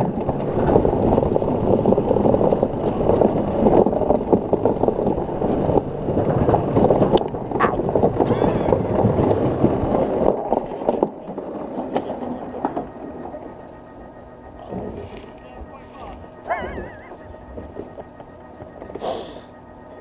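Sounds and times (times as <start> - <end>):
sled rattling on steel track: 0.0 - 18.6.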